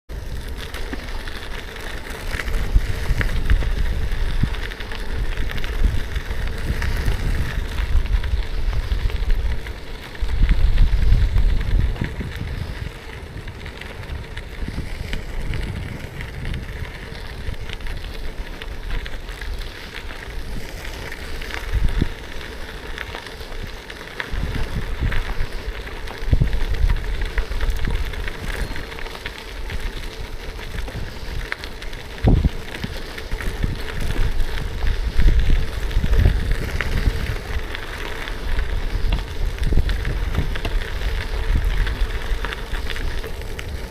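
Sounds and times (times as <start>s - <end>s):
bike tyres crunching over gravel: 0.1s - 43.9s
wind rumbling on microphone: 0.1s - 43.9s.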